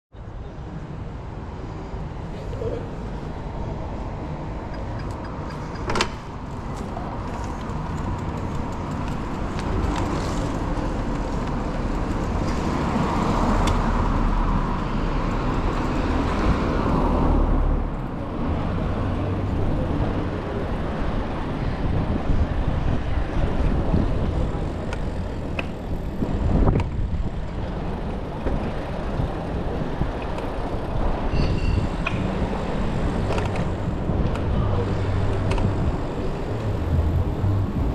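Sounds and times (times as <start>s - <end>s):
road noise: 0.1s - 37.9s
passing motor vehicles: 0.6s - 37.9s
heavy vehicle rumbling: 2.1s - 37.9s.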